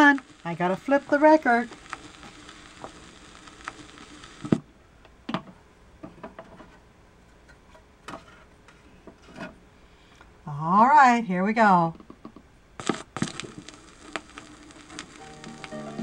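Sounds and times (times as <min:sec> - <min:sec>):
record player hiss: 0:00.0 - 0:16.0.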